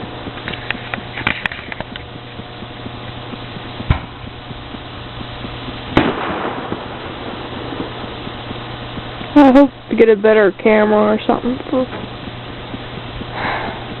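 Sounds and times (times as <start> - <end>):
fireworks crackling and banging: 0.0 - 14.0.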